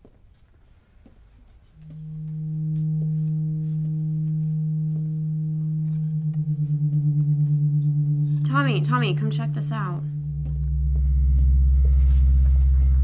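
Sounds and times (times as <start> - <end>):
low sustained drone: 1.8 - 13.0
lower wavering note: 1.8 - 13.0.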